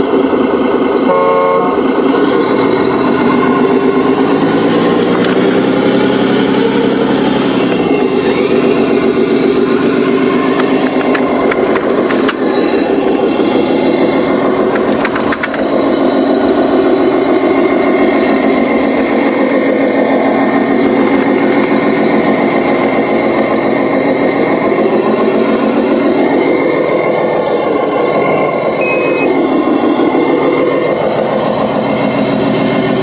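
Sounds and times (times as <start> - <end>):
truck diesel engine running: 0.0 - 33.0.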